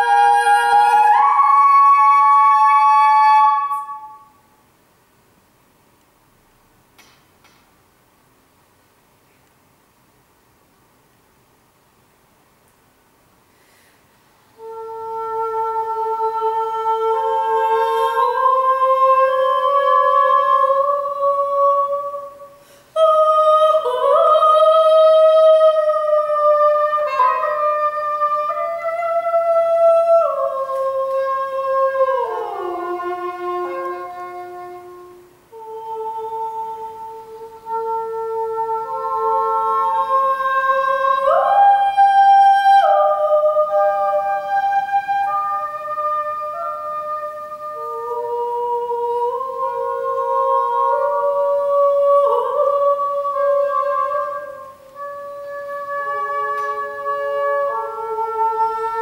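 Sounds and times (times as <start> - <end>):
english horn: 0.0 - 4.5, 14.6 - 59.0
soprano singing: 0.0 - 4.5, 14.6 - 59.0.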